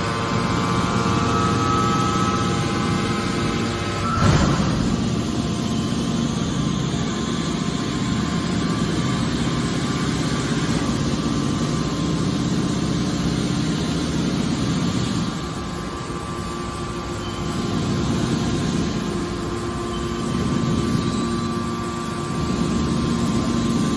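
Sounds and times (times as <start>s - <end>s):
hydraulic baler drone: 0.0s - 23.9s.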